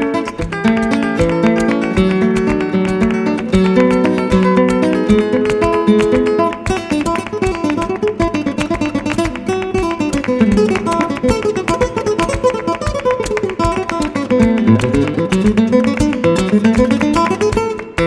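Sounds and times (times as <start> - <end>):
flamenco acoustic guitar: 0.0 - 18.0.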